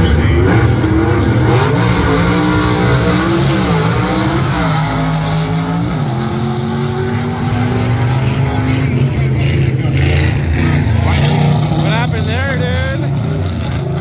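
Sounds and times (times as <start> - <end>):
racing car engine at full throttle: 0.0 - 14.0.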